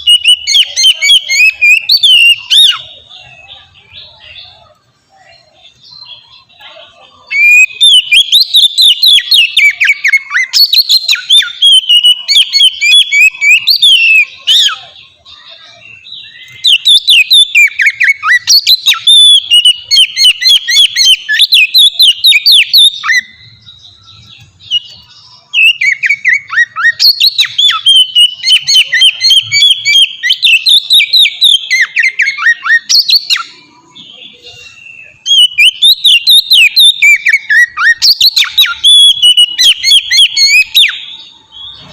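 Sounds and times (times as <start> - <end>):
bird singing whistled notes: 0.0 - 41.9.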